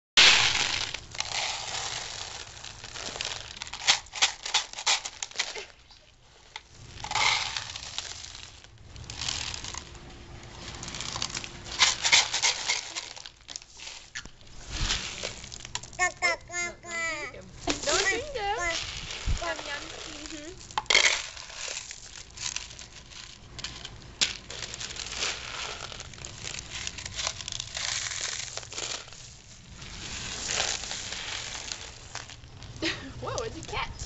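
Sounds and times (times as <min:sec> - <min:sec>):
dried beans rattling: 0:00.2 - 0:34.0.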